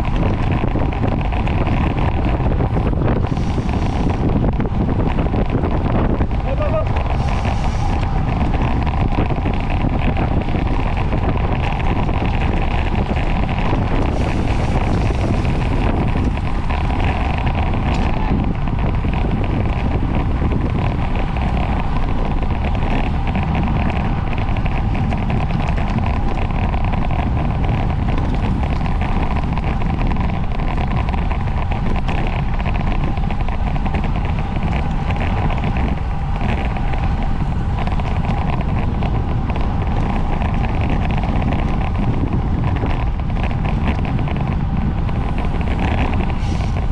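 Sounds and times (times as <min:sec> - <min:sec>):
wind rush on microphone: 0:00.0 - 0:46.9.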